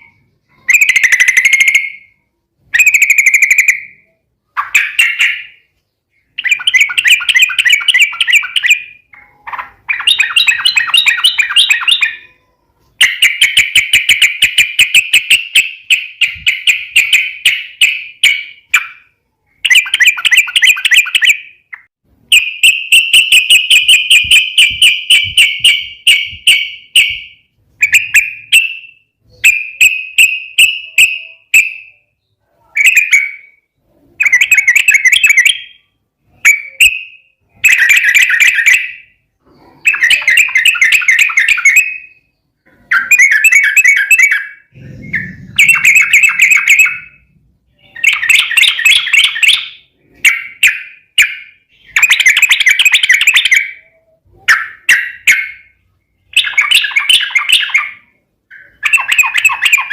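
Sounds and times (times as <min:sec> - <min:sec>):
bird chattering song: 0:00.0 - 0:59.9.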